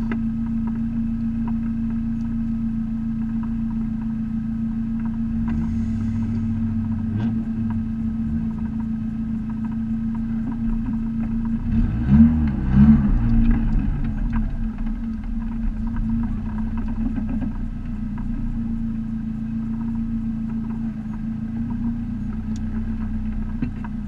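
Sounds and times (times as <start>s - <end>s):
car engine idling: 0.0s - 24.0s
engine throttle blips: 0.0s - 24.0s.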